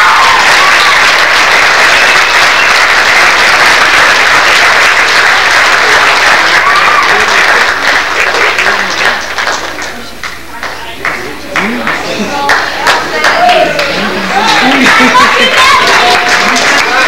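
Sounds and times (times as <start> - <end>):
audience applause: 0.0 - 17.0.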